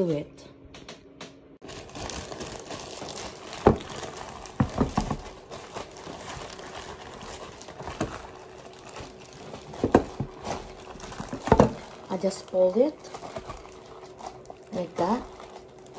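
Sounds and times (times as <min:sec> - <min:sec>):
plastic gloves rustling: 0:01.6 - 0:15.9.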